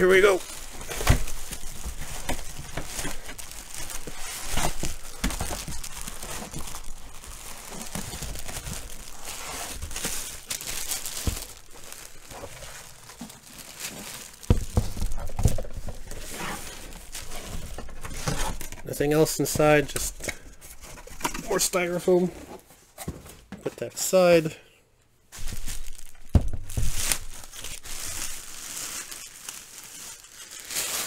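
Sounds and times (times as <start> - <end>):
plastic wrapping crinkling: 0.0 - 22.0, 25.3 - 31.0.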